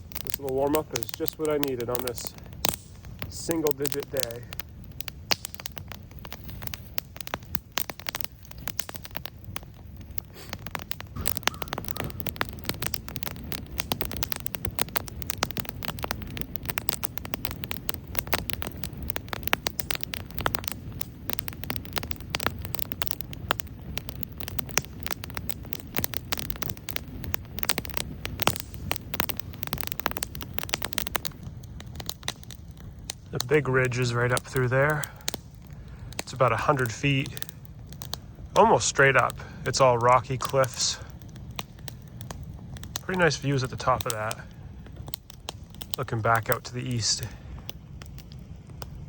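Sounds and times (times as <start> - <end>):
campfire crackling: 0.0 - 49.0.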